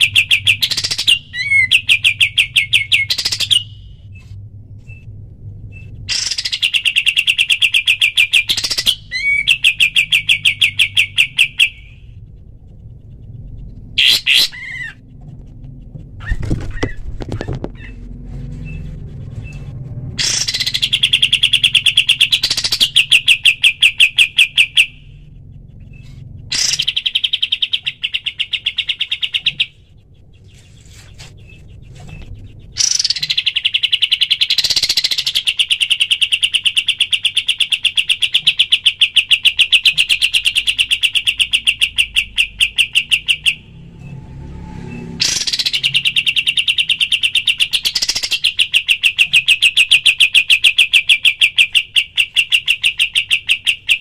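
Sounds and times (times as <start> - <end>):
bird chattering song: 0.0 - 43.8, 45.2 - 54.0.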